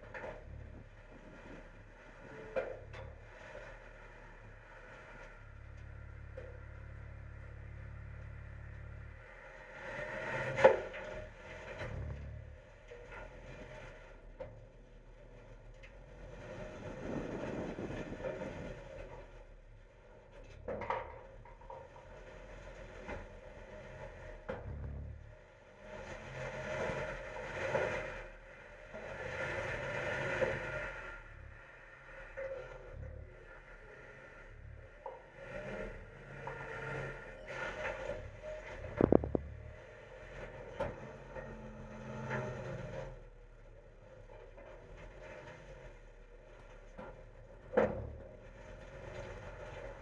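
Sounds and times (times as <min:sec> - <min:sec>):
garbage truck engine: 0:00.0 - 0:50.0
hydraulic hum: 0:00.0 - 0:50.0.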